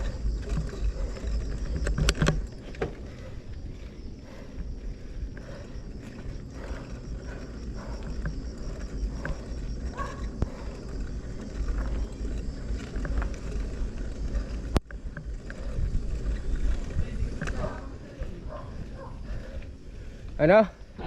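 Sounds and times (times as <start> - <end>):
bicycle rattles and clicks: 0.0 - 21.0
wind rumble on microphone: 0.0 - 21.0.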